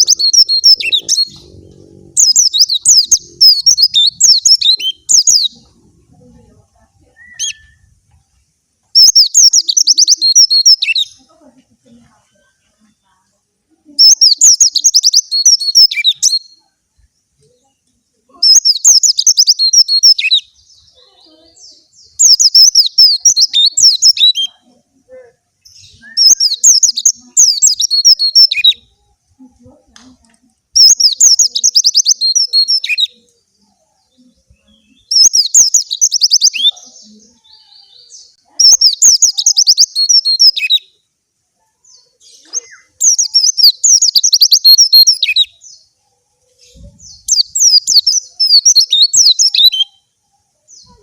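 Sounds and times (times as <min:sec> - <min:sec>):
bird chirping song: 0:00.0 - 0:51.0.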